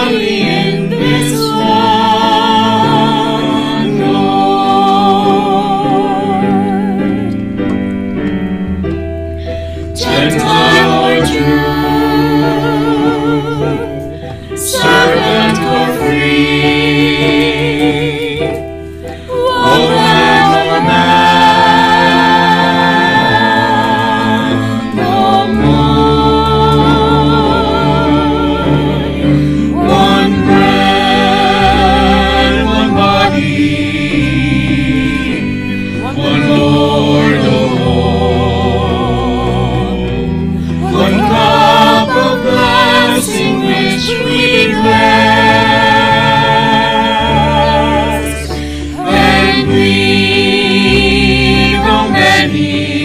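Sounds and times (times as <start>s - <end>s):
choir singing: 0.0s - 8.3s, 9.4s - 53.0s
instrumental accompaniment: 0.0s - 53.0s.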